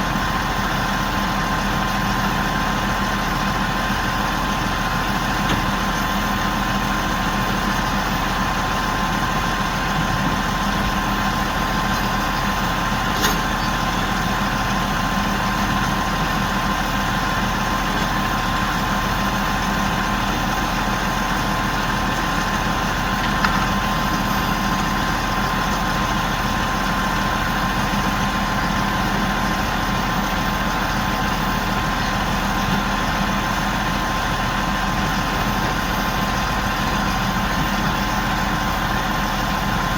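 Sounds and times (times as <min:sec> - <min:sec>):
crane engine idling: 0:00.0 - 0:39.9.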